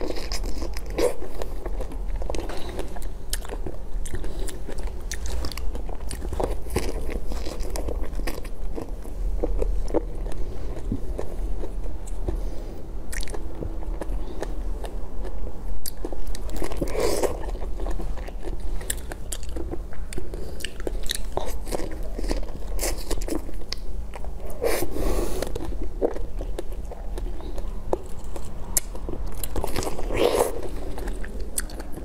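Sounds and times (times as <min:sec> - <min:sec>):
biting and chewing: 0:00.0 - 0:32.0.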